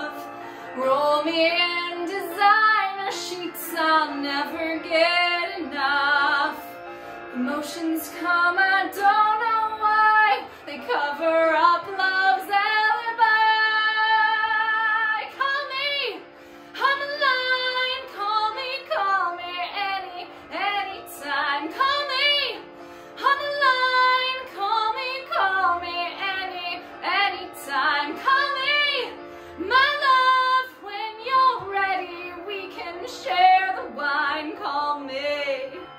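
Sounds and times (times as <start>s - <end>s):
woman singing: 0.0s - 35.9s.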